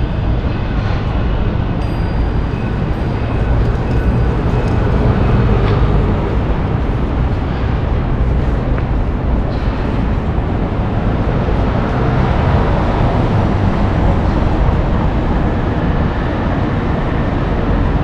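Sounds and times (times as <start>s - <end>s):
metro train running: 0.0s - 18.0s.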